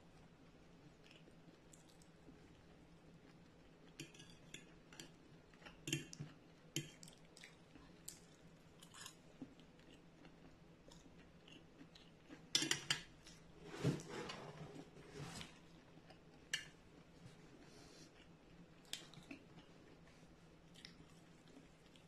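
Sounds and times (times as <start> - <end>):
chewing food: 0.8 - 13.4, 15.6 - 22.0.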